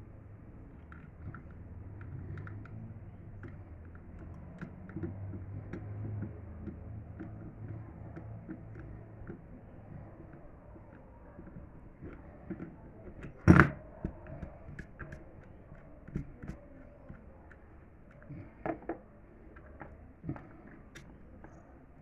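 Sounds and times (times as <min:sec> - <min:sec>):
low steady hum: 0:00.0 - 0:22.0
light clicks and taps: 0:00.3 - 0:22.0.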